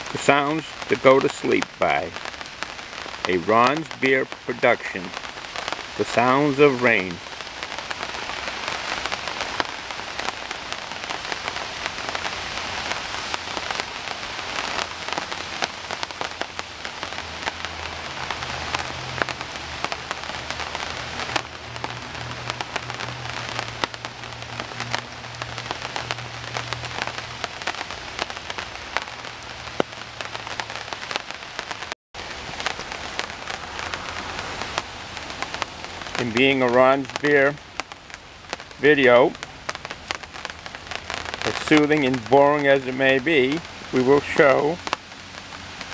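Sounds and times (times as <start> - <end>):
raindrops ticking on surfaces: 0.0 - 45.9
steady rain falling: 0.0 - 45.9.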